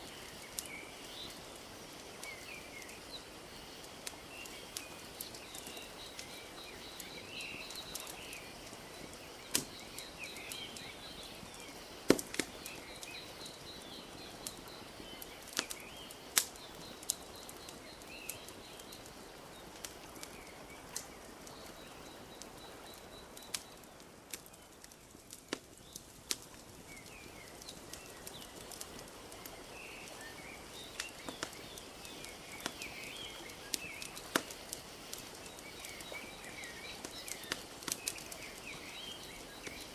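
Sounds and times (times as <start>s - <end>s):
small birds chirping: 0.0s - 39.9s
wood fire crackling and popping: 0.0s - 39.9s.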